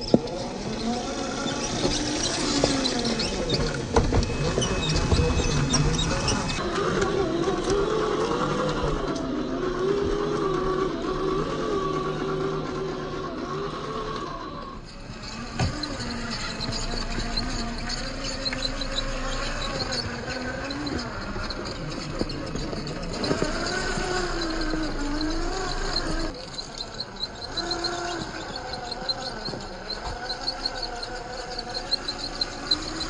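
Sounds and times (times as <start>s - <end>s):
electric motor and gears whining: 0.0s - 33.0s.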